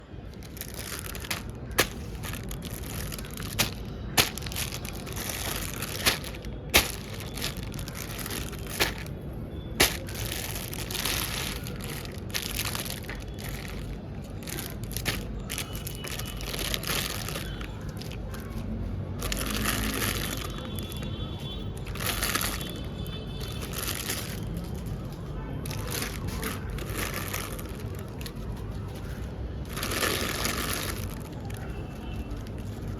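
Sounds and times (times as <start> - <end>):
plastic packaging crinkling: 0.2 - 32.9.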